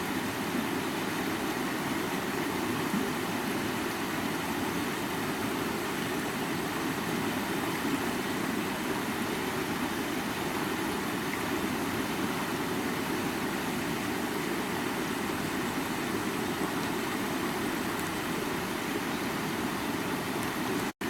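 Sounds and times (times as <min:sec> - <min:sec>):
water running over rocks: 0:00.0 - 0:21.0.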